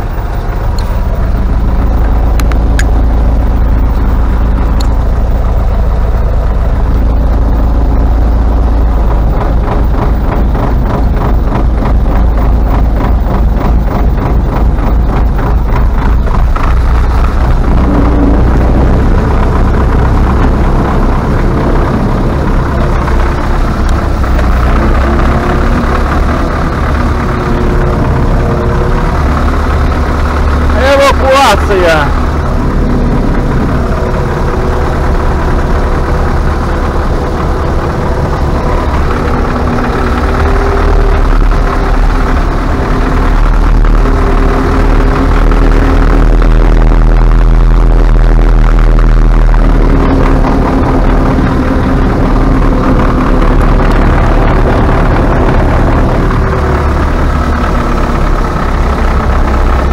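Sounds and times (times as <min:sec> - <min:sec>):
fast even rattling clatter: 0:00.0 - 0:59.9
tractor diesel engine running: 0:00.0 - 0:59.9.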